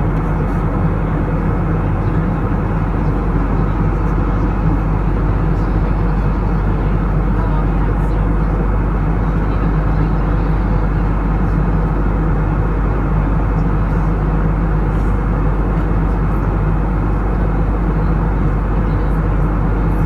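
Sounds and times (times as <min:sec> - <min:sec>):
jet engines and airflow rumble: 0:00.0 - 0:20.0.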